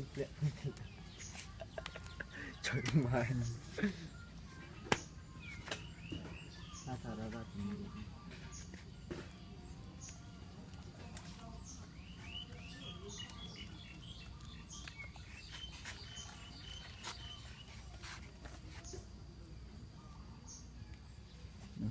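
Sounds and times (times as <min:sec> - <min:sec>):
birds chirping: 0:00.0 - 0:19.1
low background noise: 0:00.0 - 0:21.9.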